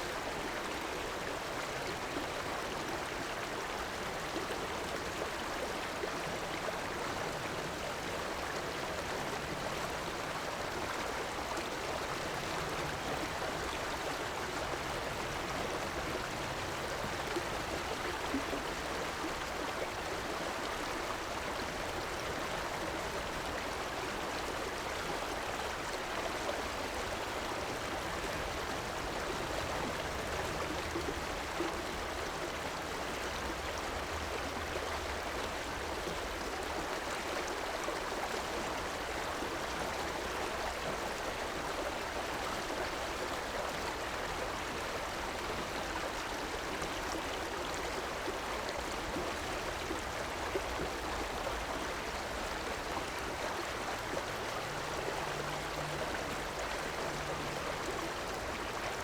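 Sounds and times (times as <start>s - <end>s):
river water rushing and gurgling: 0.0s - 59.0s.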